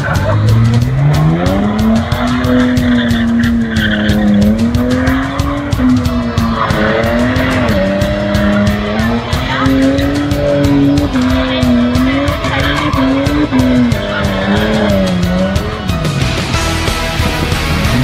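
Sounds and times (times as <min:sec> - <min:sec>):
tyres squealing: 0:00.0 - 0:16.7
car engine revving: 0:00.0 - 0:18.0.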